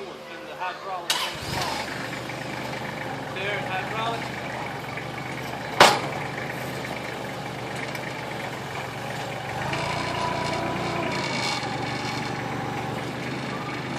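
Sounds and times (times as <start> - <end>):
tractor engine running: 1.1 - 13.9.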